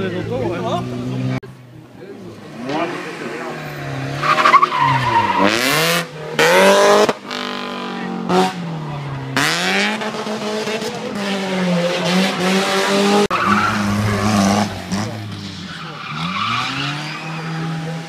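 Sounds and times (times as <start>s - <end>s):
rally car engine revving: 2.3s - 18.0s.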